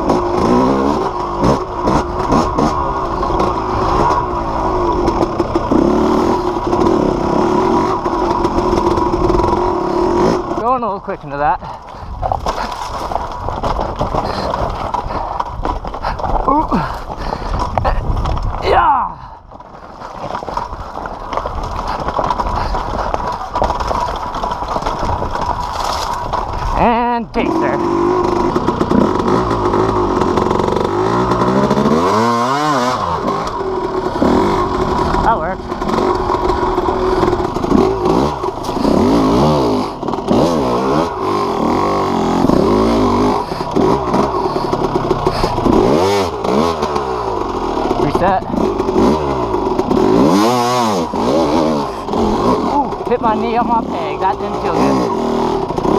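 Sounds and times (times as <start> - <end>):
bike rattling over rough terrain: 0.0 - 55.9
dirt bike engine: 0.0 - 55.9.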